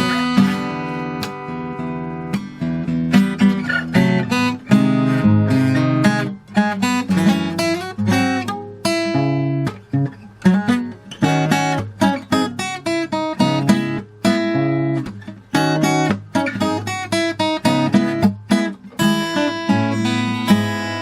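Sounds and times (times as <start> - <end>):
acoustic guitar picked notes: 0.0 - 21.0.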